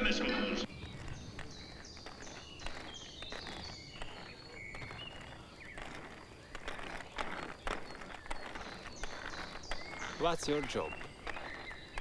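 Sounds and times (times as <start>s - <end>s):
small birds chirping: 0.0s - 12.0s
footsteps on stone paving: 0.6s - 12.0s.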